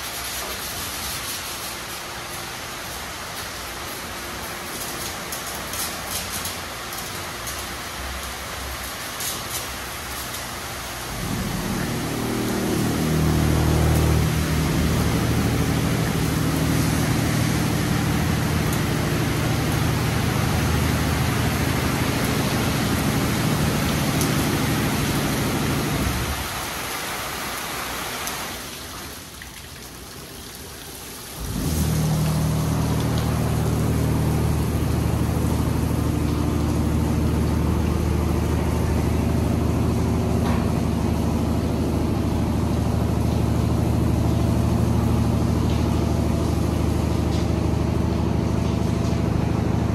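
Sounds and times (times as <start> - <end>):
car wash machinery hum: 0.0 - 49.9.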